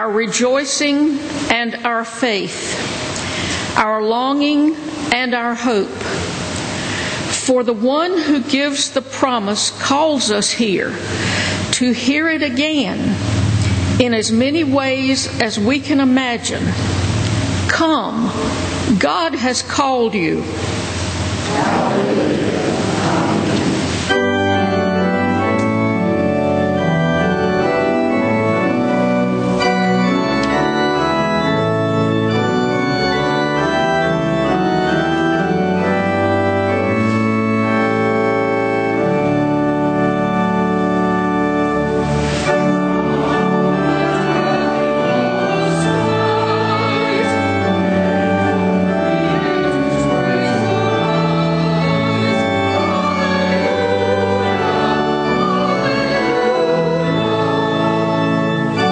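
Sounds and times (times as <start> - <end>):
organ playing a hymn: 0.0 - 58.9.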